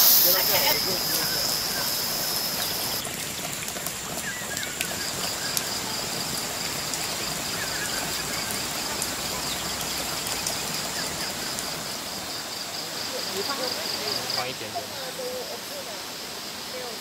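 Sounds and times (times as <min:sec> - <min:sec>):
high pulsing insect call: 0:00.0 - 0:17.0.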